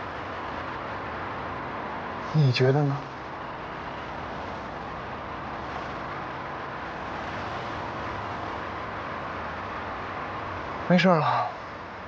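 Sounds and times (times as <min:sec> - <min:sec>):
steady hiss and hum: 0:00.0 - 0:12.0.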